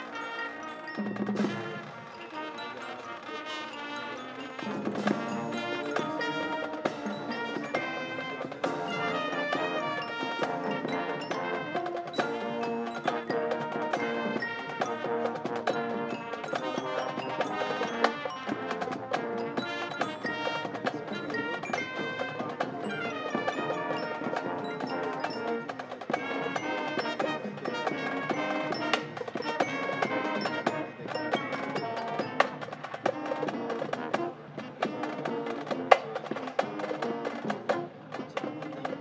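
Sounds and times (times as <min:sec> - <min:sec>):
drums: 0:00.0 - 0:39.0
mallet percussion notes: 0:00.0 - 0:39.0
marching band playing: 0:00.0 - 0:39.0.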